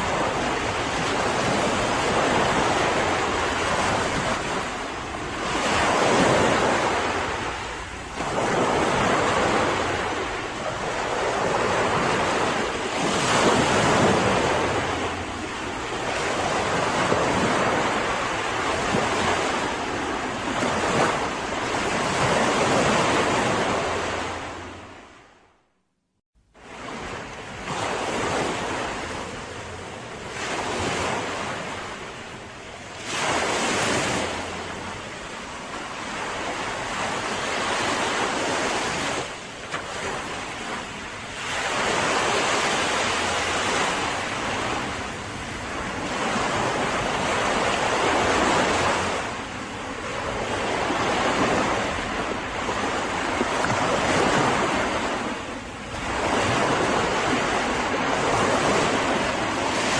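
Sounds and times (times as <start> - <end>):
sea waves breaking on beach: 0.0 - 25.3, 26.6 - 59.9.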